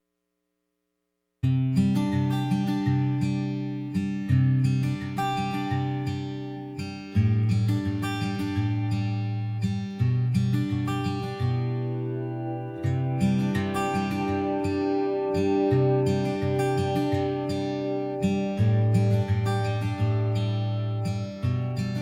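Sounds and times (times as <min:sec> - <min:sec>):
acoustic guitar plucked chords: 0:01.5 - 0:22.0.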